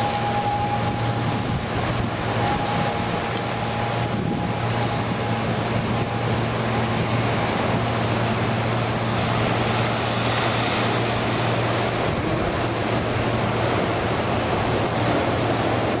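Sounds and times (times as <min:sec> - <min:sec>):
distant turboprop engines drone: 0:00.0 - 0:16.0
surf breaking on shore: 0:00.0 - 0:16.0
wind on microphone: 0:00.0 - 0:16.0.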